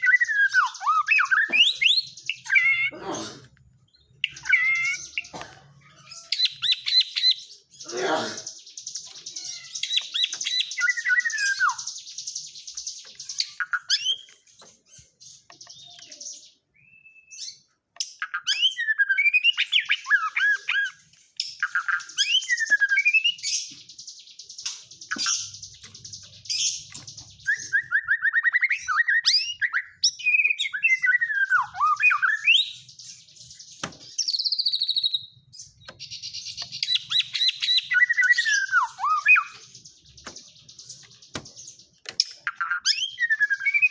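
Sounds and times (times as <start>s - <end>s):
bird singing buzzy trills and whistles: 0.0s - 5.4s, 6.0s - 43.9s.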